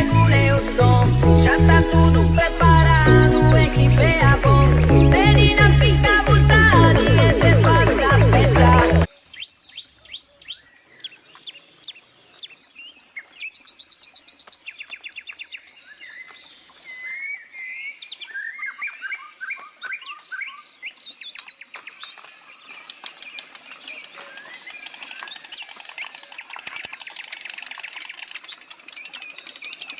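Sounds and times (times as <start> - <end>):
birds chirping and singing: 0.0 - 29.9.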